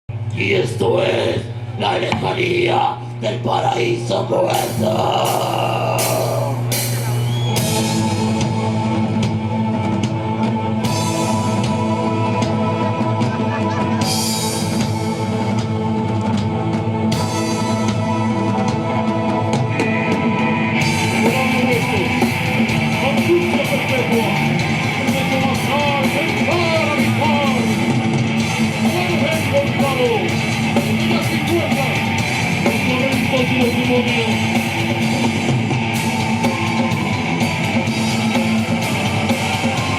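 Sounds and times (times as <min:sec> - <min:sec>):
rock band playing live: 0:04.5 - 0:39.9.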